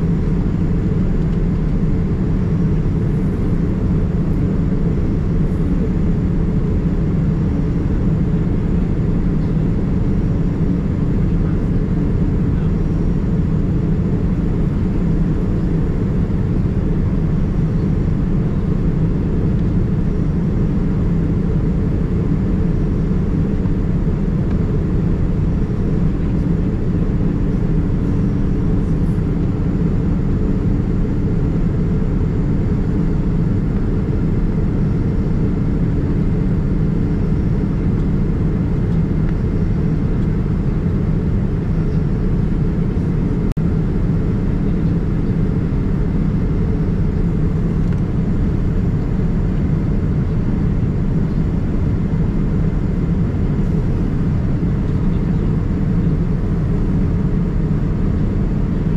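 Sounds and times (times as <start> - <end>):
airplane cabin engine rumble: 0.0 - 58.9.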